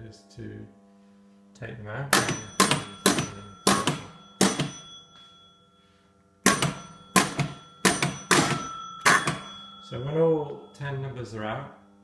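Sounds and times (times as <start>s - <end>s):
pinball scoring bell ringing: 2.1s - 12.0s.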